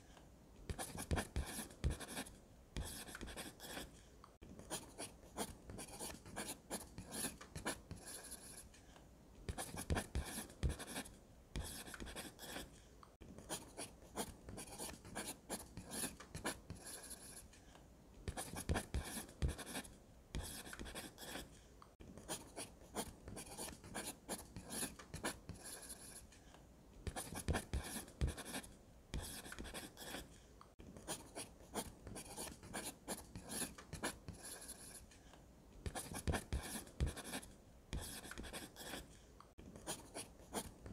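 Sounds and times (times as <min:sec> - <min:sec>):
pencil scratching on paper: 0:00.7 - 0:04.0, 0:04.6 - 0:08.8, 0:09.5 - 0:12.8, 0:13.4 - 0:17.5, 0:18.3 - 0:21.6, 0:22.2 - 0:26.3, 0:27.1 - 0:30.4, 0:31.0 - 0:35.1, 0:35.9 - 0:39.2, 0:39.8 - 0:40.9.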